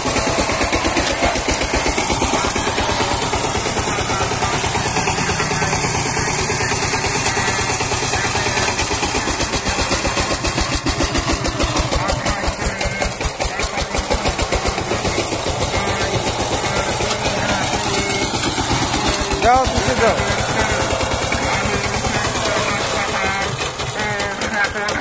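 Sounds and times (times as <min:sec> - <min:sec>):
single-cylinder diesel engine running: 0:00.0 - 0:25.0.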